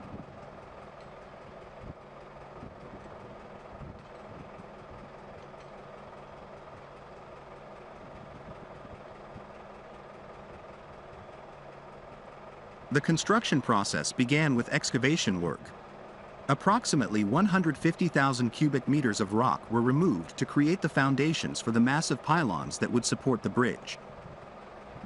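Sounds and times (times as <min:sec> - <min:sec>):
construction machinery idling: 0:00.0 - 0:25.0.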